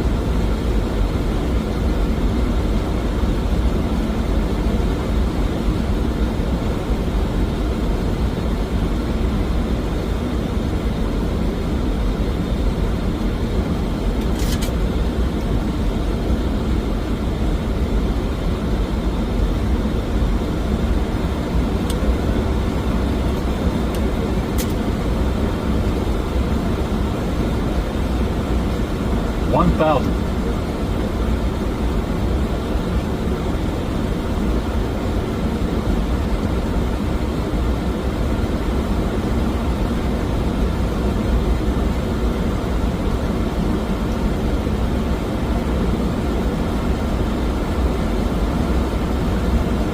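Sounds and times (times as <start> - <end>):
aircraft engine noise: 0.0 - 49.9
airliner cabin airflow: 0.0 - 49.9.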